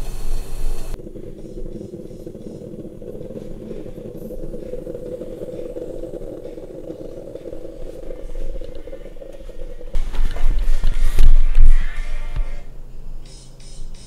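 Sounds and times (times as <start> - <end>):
moka pot bubbling: 0.4 - 12.5.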